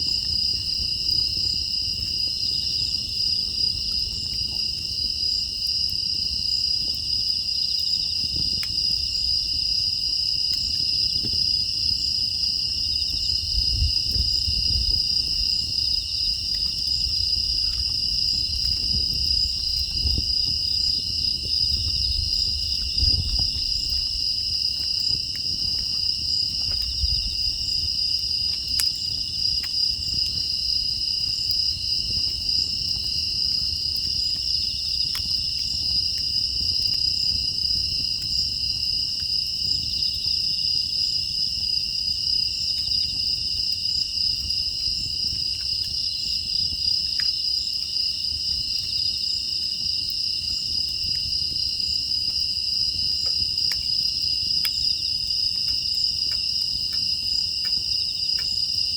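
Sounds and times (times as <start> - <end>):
crickets trilling: 0.0 - 58.9
wood fire crackling: 0.0 - 58.9.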